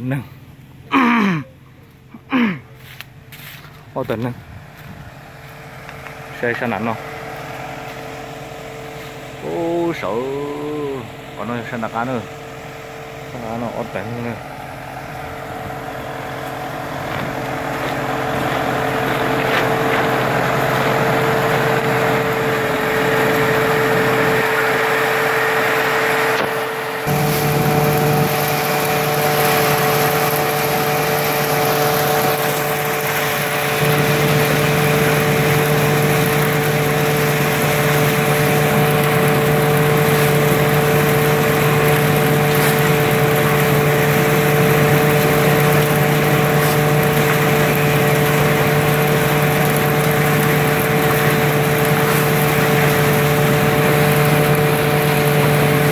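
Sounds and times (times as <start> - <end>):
lower hum: 0.0 - 55.9
thresher humming: 0.0 - 55.9.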